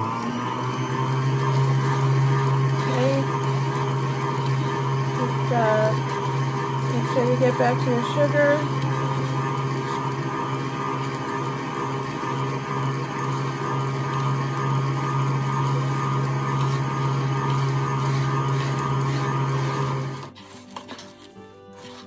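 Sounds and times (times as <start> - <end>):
electric stand mixer humming: 0.0 - 21.2, 21.8 - 22.0.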